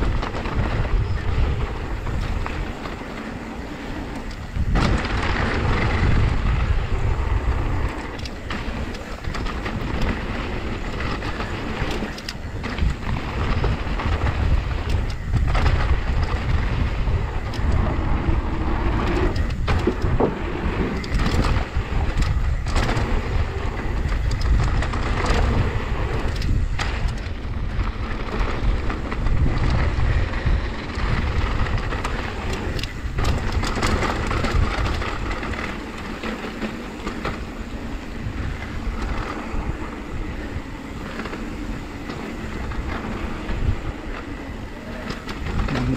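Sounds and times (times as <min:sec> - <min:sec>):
bike rattling over bumps: 0:00.0 - 0:45.9
bike tyres rolling over gravel: 0:00.0 - 0:45.9
wind rumble on microphone: 0:00.0 - 0:45.9.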